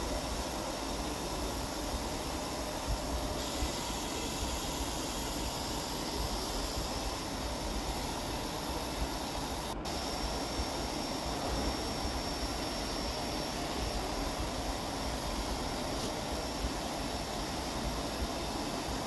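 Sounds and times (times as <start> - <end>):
faint high whine: 0.0 - 19.0
vacuum cleaner running: 0.0 - 19.0.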